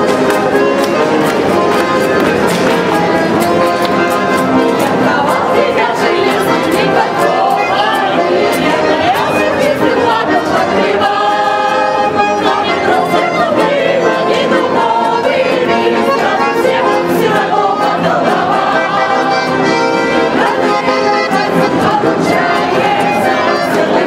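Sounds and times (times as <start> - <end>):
group singing in chorus: 0.0 - 24.0
instrumental accompaniment: 0.0 - 24.0.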